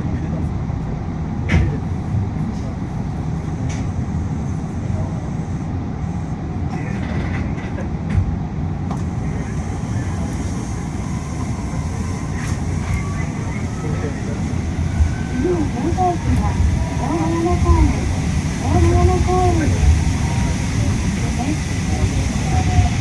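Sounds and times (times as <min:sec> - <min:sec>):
air-conditioning noise: 0:00.0 - 0:22.8
monorail car rumbling on track: 0:00.0 - 0:23.0.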